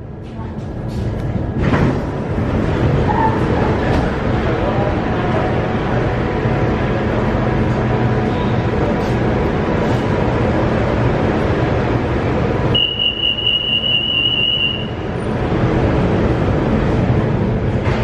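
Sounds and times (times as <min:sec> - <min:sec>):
metro train rumble and hum: 0:00.0 - 0:18.0.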